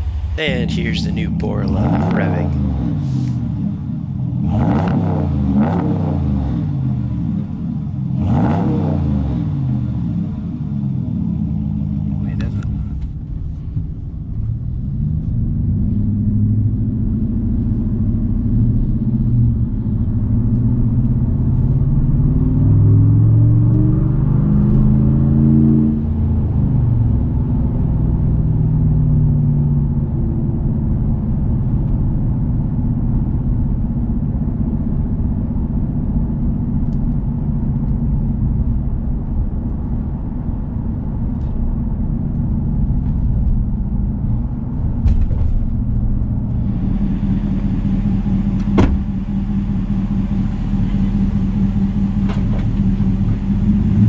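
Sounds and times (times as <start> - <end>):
truck exhaust rumble: 0.0 - 54.0.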